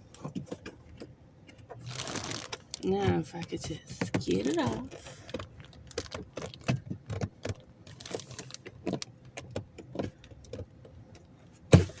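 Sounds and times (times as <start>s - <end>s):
clicks and light knocks on plastic: 0.1s - 1.8s, 2.8s - 12.0s.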